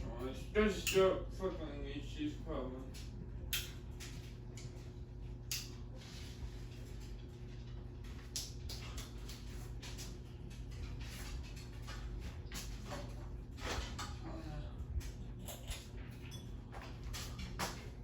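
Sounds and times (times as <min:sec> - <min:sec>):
ceiling fan motor humming: 0:00.0 - 0:18.0.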